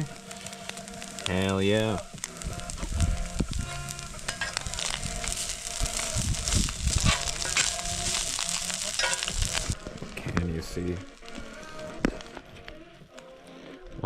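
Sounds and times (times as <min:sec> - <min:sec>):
food sizzling: 0:00.0 - 0:13.4
campfire crackles and pops: 0:00.0 - 0:14.0.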